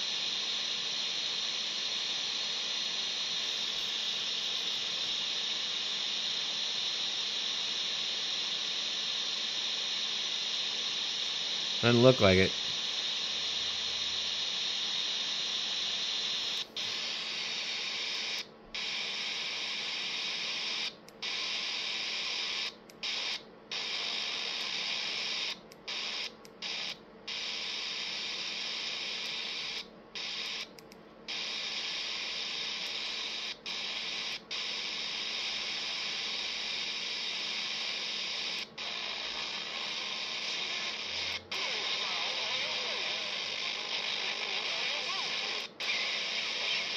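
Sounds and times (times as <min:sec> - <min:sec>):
radio static hiss: 0:00.0 - 0:30.7, 0:31.3 - 0:46.9.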